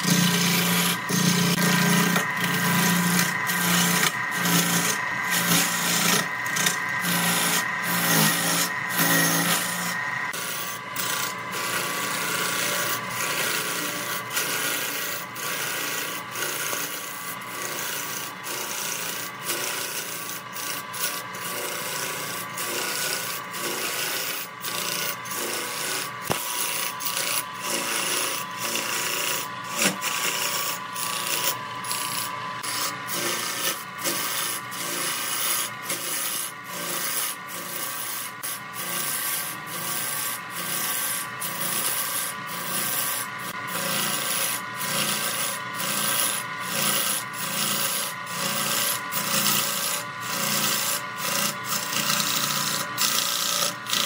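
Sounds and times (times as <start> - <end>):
lathe tool scraping wood: 0.0 - 54.0.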